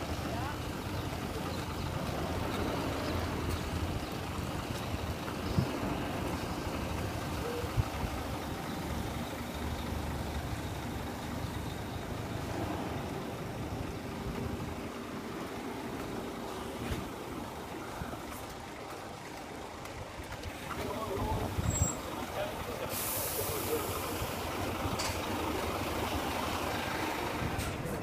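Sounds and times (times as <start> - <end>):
diesel coaches idling: 0.0 - 28.0
road traffic: 0.0 - 28.0.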